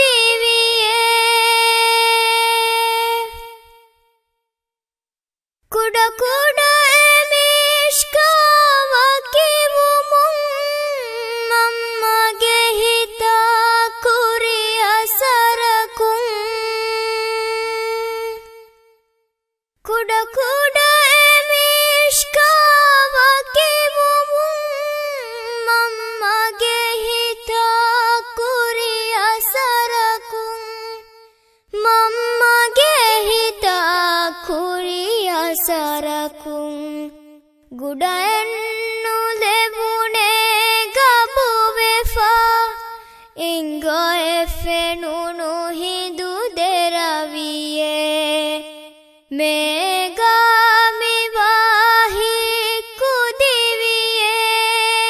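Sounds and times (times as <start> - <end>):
person singing unaccompanied: 0.0 - 3.9, 5.7 - 18.8, 19.9 - 55.0.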